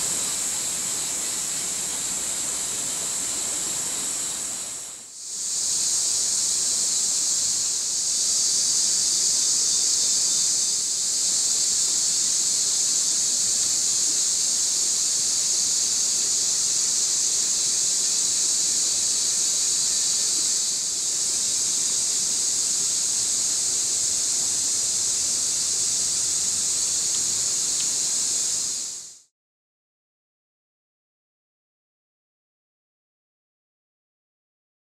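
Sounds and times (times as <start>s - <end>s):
insect chorus hissing: 0.0s - 29.3s.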